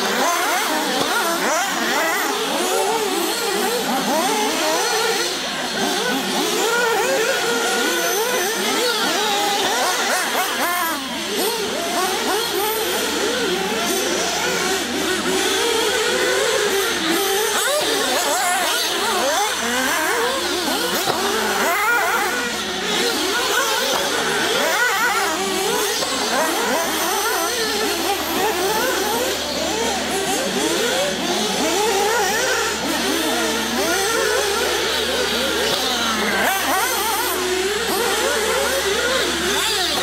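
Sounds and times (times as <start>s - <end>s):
rc buggy engines revving: 0.0s - 40.0s.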